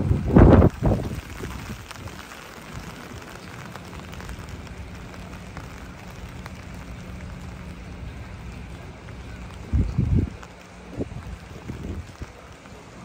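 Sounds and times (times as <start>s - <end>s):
ferry engine humming: 0.0s - 13.0s.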